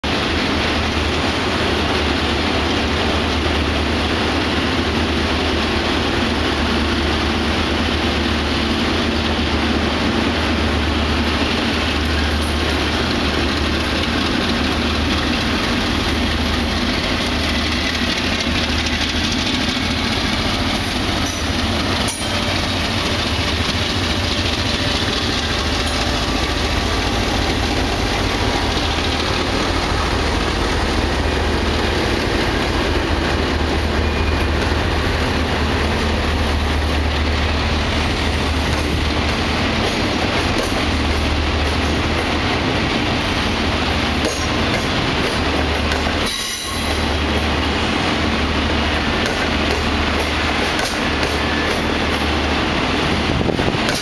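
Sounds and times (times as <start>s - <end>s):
diesel locomotive engine drone: 0.0s - 54.0s
train wheels rushing on rails: 0.0s - 54.0s.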